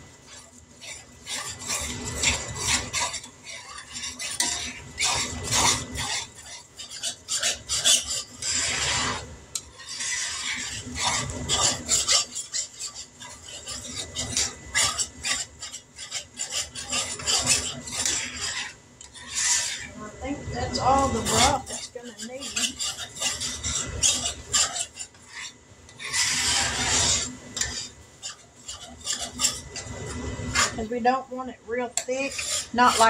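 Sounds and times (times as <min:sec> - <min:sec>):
utensil scraping a skillet: 0:00.0 - 0:33.0.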